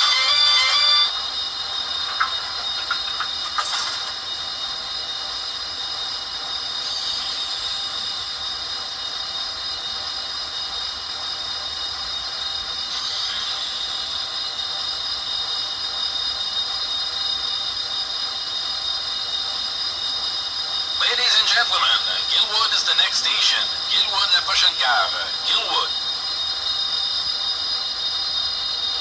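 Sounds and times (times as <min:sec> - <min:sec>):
model train turbine whine: 0:00.0 - 0:29.0.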